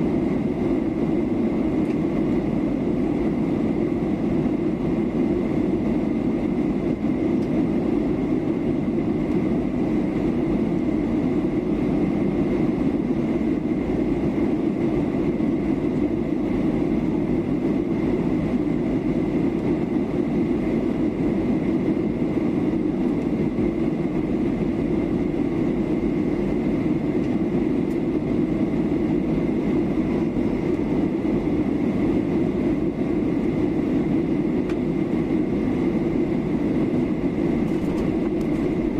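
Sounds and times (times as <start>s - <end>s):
airliner cabin engine roar: 0.0s - 38.9s
faint steady whine: 0.0s - 38.9s.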